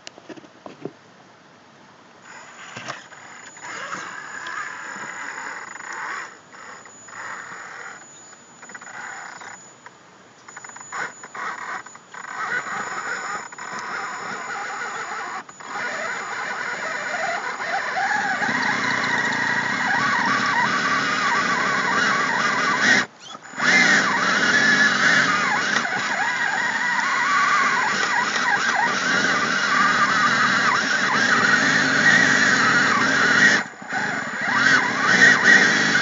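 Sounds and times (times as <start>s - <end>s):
electric motor whining: 2.3s - 36.0s.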